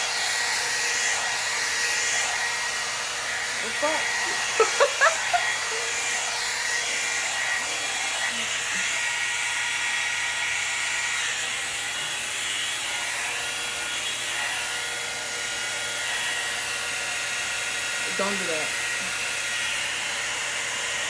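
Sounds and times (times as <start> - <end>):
blow dryer brush running: 0.0 - 21.0.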